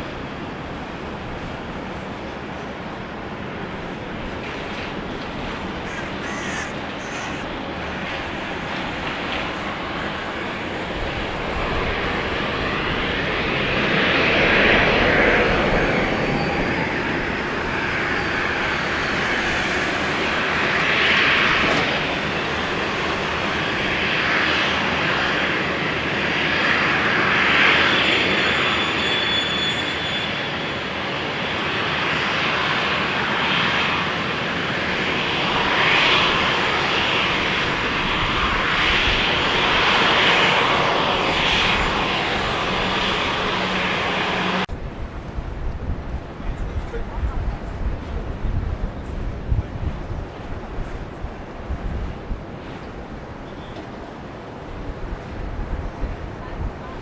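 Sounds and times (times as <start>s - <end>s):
high turbine whine: 0.0s - 57.0s
jet engines rushing: 0.0s - 57.0s.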